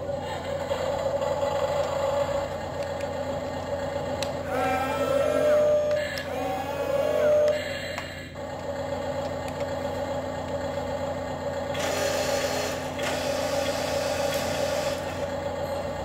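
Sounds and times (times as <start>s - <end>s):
toy electronic engine hum: 0.0s - 10.2s, 11.7s - 16.0s.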